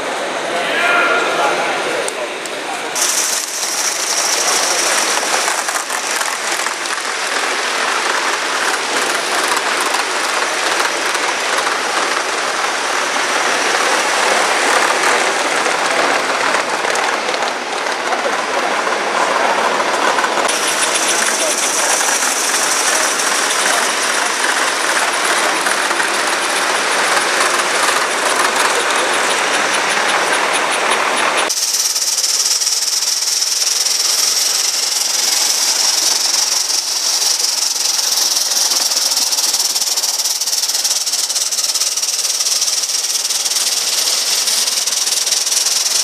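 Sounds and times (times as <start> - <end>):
model train rushing past: 0.0 - 46.0
steam hissing: 2.8 - 46.0.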